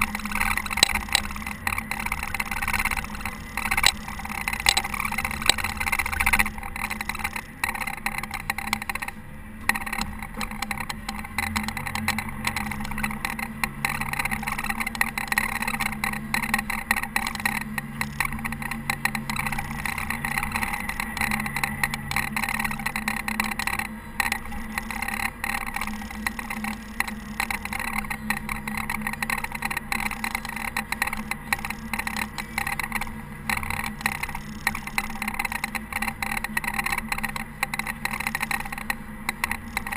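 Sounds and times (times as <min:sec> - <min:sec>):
diesel engine running: 0:00.0 - 0:39.9
rushing mechanical noise: 0:00.0 - 0:39.9.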